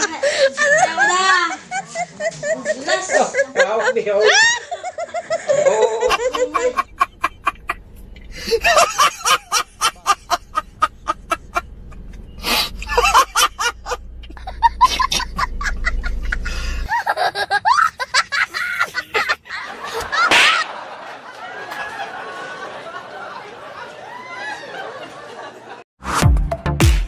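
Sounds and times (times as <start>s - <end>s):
people laughing: 0.0s - 25.8s.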